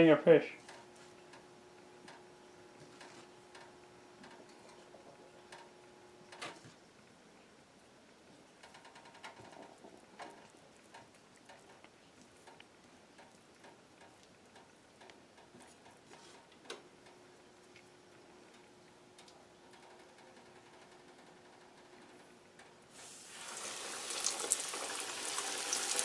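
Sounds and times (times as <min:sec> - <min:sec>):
faint steady hum: 0:00.0 - 0:26.0
small ticks and clicks: 0:00.6 - 0:07.2, 0:08.1 - 0:22.9.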